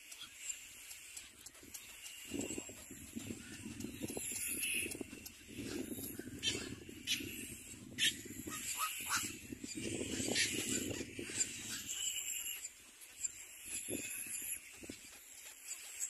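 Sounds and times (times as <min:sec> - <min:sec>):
cormorants chattering: 0:01.7 - 0:15.0.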